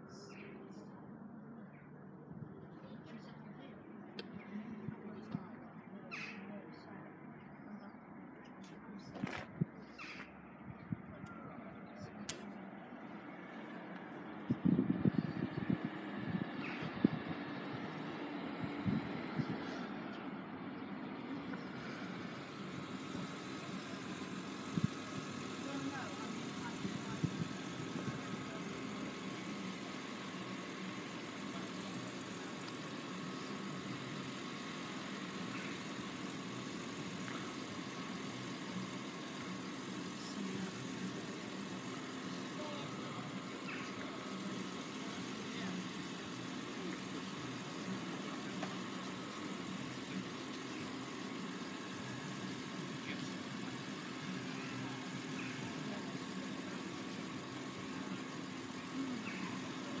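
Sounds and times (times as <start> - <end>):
engine idling: 0.0 - 60.0.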